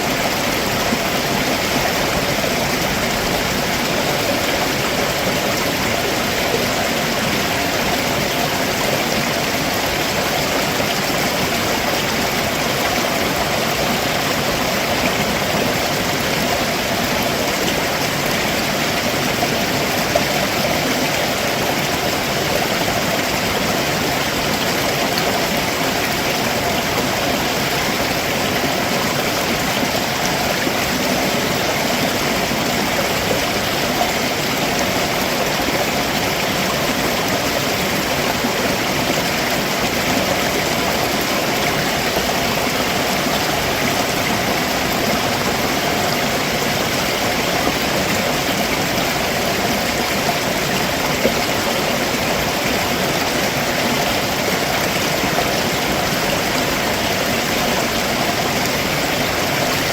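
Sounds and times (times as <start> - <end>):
water splashing over rocks: 0.0 - 59.9.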